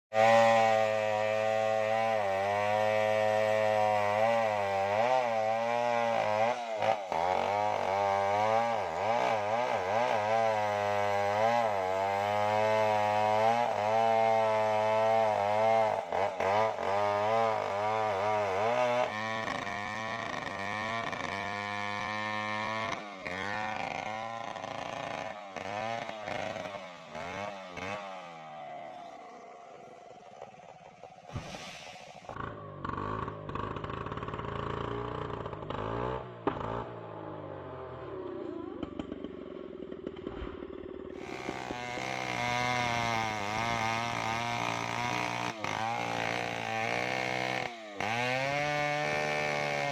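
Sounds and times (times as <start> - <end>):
chainsaw cutting wood: 0.1 - 49.9.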